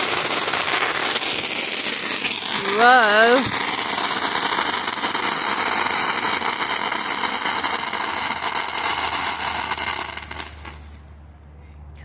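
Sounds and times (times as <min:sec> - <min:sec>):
firework fountain hissing and crackling: 0:00.0 - 0:11.1.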